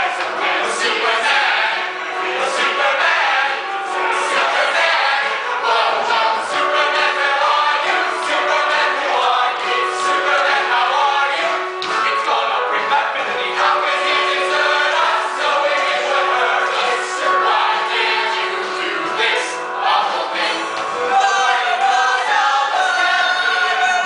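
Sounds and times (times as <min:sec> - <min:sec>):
cast singing in chorus: 0:00.0 - 0:24.0
instrumental accompaniment: 0:00.0 - 0:24.0.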